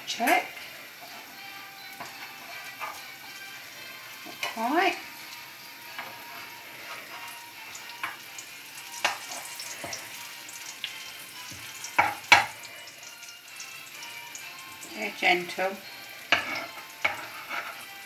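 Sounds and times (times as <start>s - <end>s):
batter sizzling in a frying pan: 0.0s - 18.0s.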